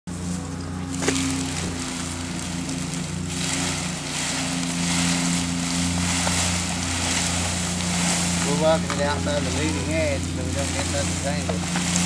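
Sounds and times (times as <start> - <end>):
low engine drone: 0.1 - 12.0.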